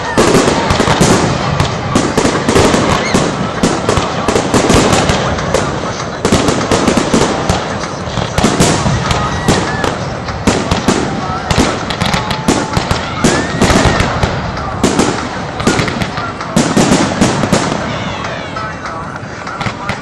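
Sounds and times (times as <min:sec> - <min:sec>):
fireworks bursting: 0:00.0 - 0:20.0
fireworks crackling: 0:00.0 - 0:20.0.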